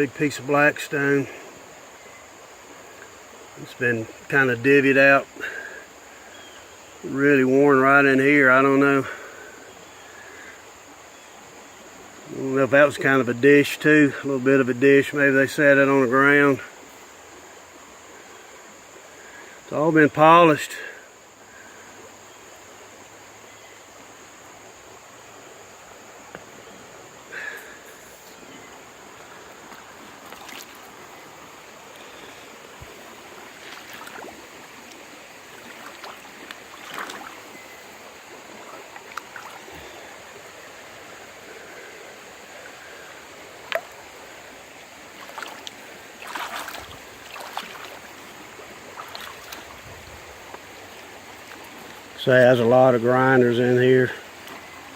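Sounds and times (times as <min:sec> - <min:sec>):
creek water running: 0:00.0 - 0:54.9.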